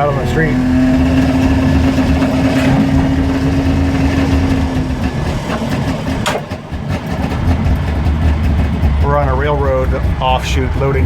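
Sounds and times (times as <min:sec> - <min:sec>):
two-stroke car engine running: 0:00.0 - 0:11.0.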